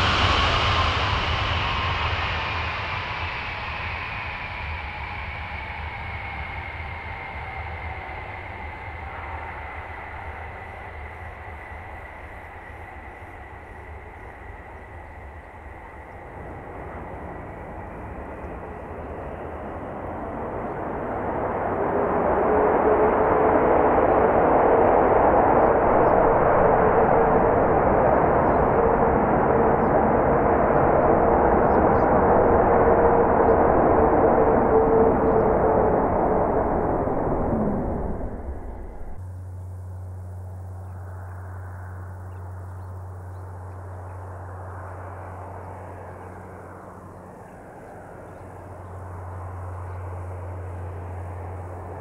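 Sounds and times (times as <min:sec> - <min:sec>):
faint high engine whine: 0:00.0 - 0:52.0
jet engines rumbling: 0:00.0 - 0:52.0.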